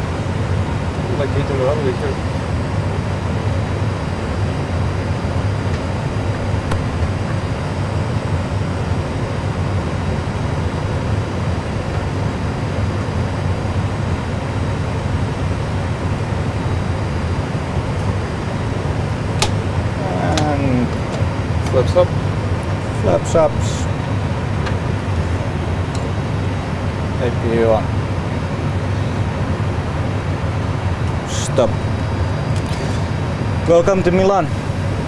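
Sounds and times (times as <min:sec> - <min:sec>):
low rumble of aircraft landing: 0:00.0 - 0:35.0.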